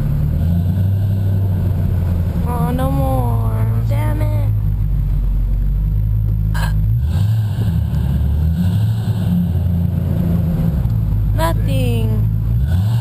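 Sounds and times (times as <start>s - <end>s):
car engine exhaust at low revs: 0.0s - 13.0s.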